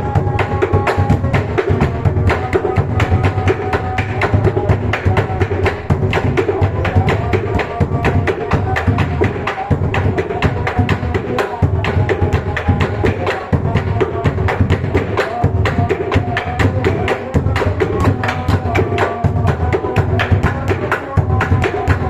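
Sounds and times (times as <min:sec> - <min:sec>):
large barrel drum beaten fast: 0:00.0 - 0:22.0.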